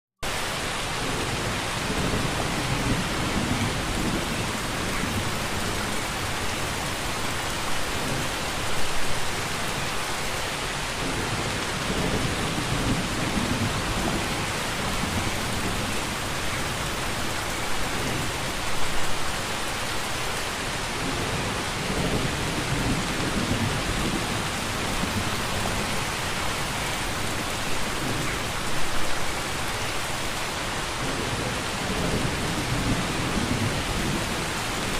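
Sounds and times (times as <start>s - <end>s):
dense rainfall hissing: 0.2s - 34.9s.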